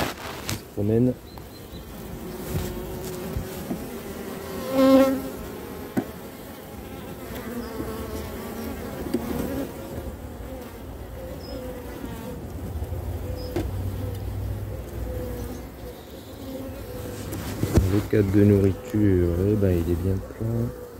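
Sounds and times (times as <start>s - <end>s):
bees buzzing: 0.0s - 20.9s.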